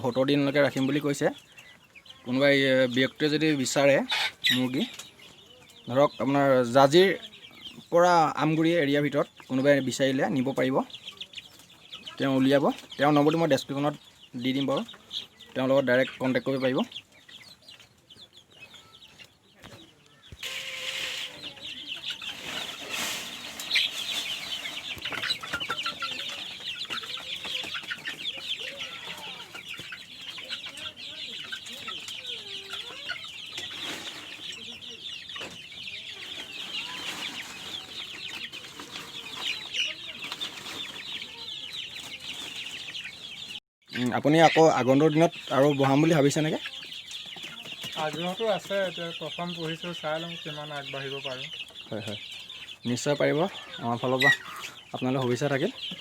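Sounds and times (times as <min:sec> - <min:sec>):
chicks cheeping and clucking: 0:00.0 - 0:56.0.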